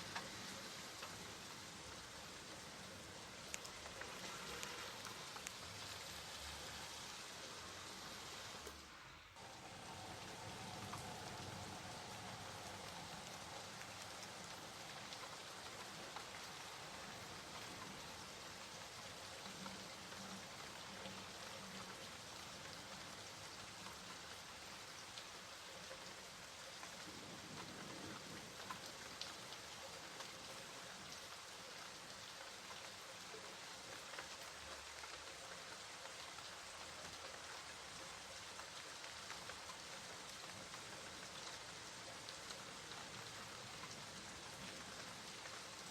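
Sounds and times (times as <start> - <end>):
soft rain falling: 0.0 - 45.9.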